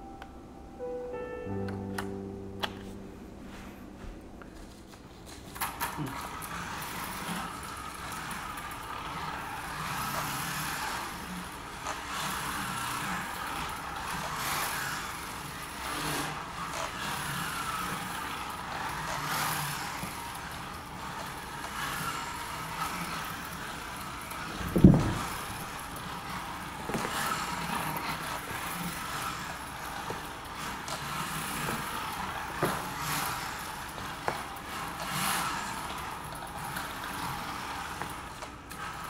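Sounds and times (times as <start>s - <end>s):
toy car electric motor whining: 5.6s - 39.0s.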